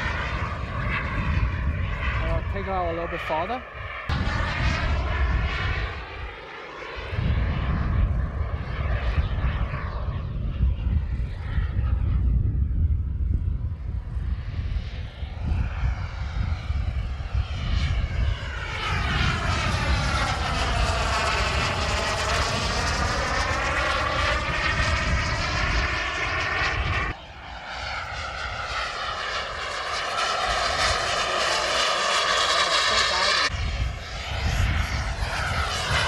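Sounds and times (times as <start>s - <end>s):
model jet turbine whine: 0.0s - 36.0s.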